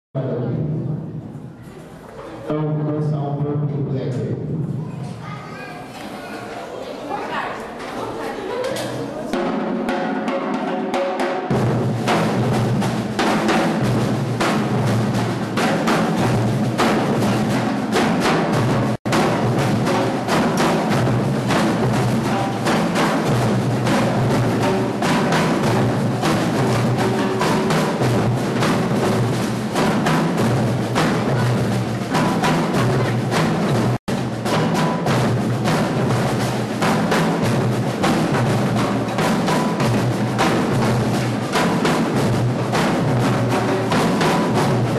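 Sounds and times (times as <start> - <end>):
drums playing rhythm: 6.5 - 44.9.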